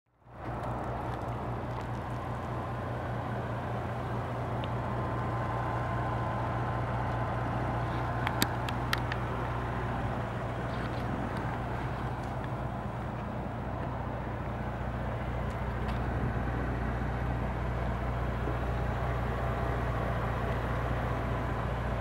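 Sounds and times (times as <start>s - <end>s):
vehicle engine idling: 0.2s - 22.0s.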